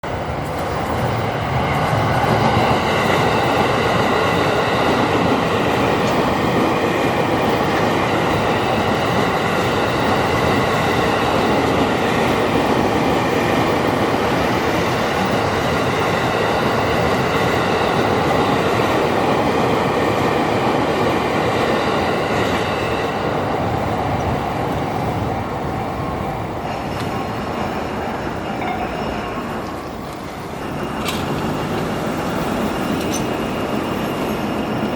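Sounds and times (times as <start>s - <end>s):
steady high-pitched tones: 0.0s - 34.9s
train wheels on rails: 0.0s - 34.9s.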